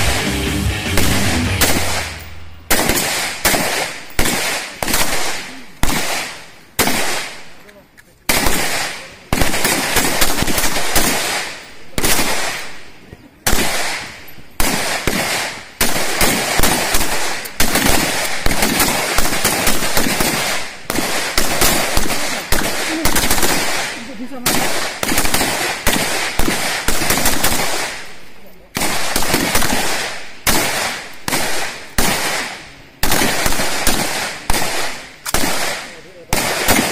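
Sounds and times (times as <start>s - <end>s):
rifle gunfire: 0.0s - 7.5s, 8.3s - 36.9s.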